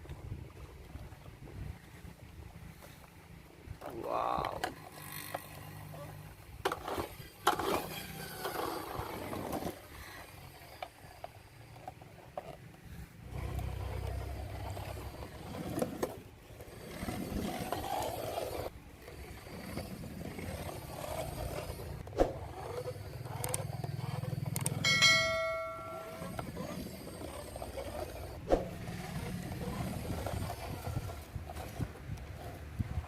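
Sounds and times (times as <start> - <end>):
plastic toy scraping: 4.6 - 24.8, 26.1 - 33.0.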